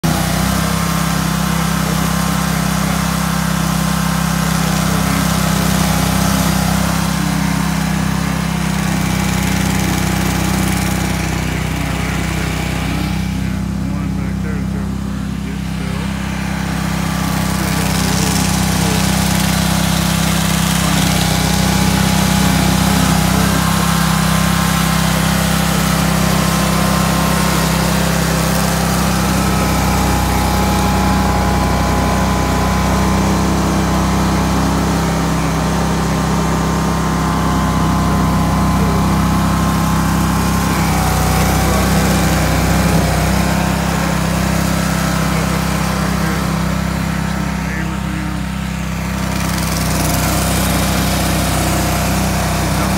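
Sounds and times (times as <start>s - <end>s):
small engine running: 0.0s - 52.9s.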